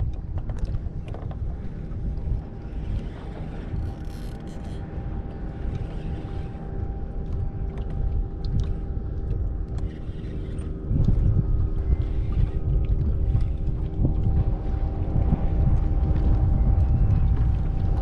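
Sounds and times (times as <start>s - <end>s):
faint hum: 0.0s - 18.0s
wind rumbling on microphone: 0.0s - 18.0s.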